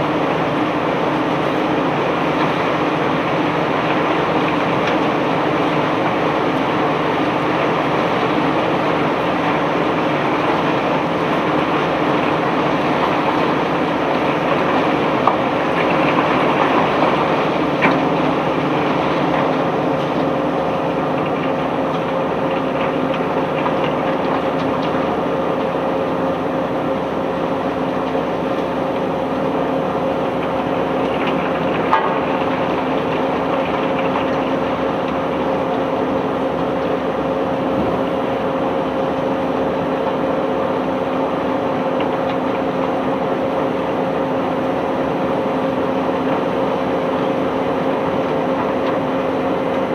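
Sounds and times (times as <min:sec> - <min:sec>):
heavy machinery humming: 0:00.0 - 0:49.9.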